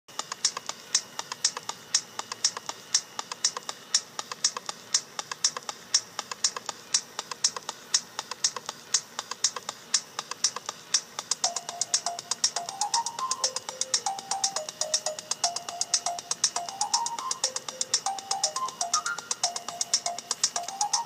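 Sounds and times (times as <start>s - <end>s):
electronic clicking percussion: 0.1s - 21.0s.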